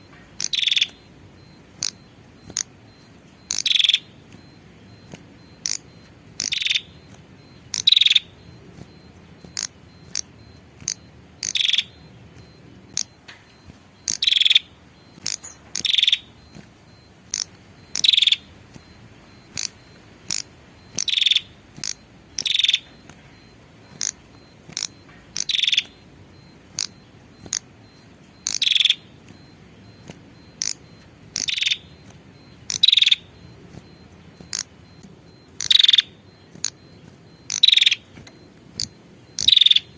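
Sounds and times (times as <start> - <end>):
bird calling with sharp high notes: 0.0 - 39.9.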